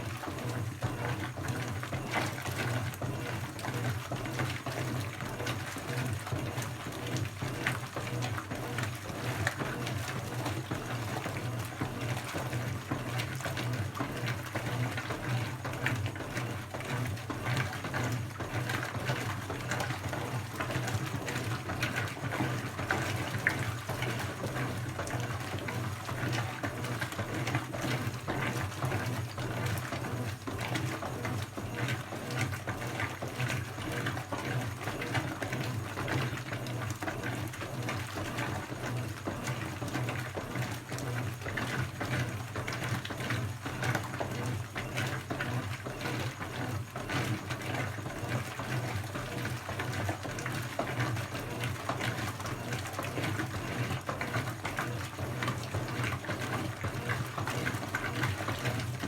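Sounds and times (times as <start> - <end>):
washing machine motor hum: 0.0 - 59.0
water sloshing in tub: 0.0 - 59.0.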